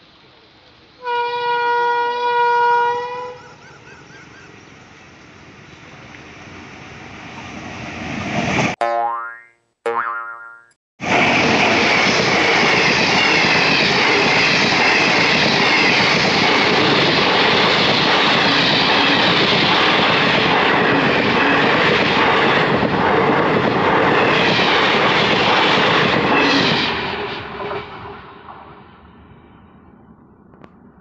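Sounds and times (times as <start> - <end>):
train passing at speed: 0.0 - 8.8, 11.0 - 31.0.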